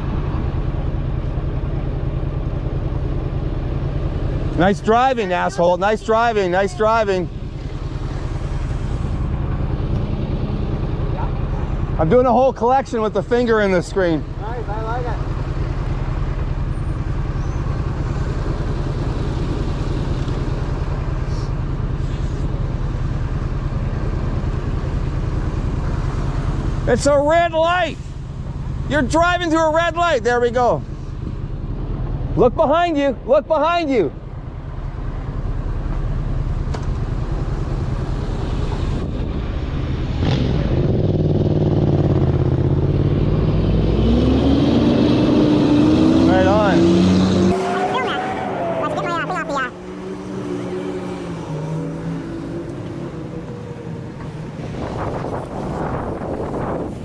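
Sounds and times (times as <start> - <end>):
heavy low traffic rumble: 0.0 - 57.0
vehicles passing: 0.0 - 57.0.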